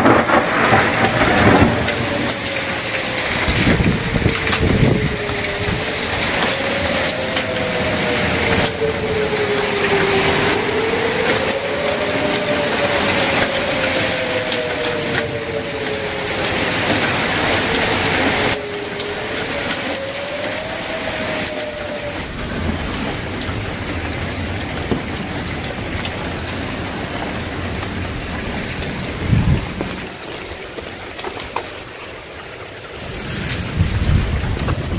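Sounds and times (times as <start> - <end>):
heavy rain and hail: 0.0 - 34.9
tornado sirens wailing: 0.0 - 34.9.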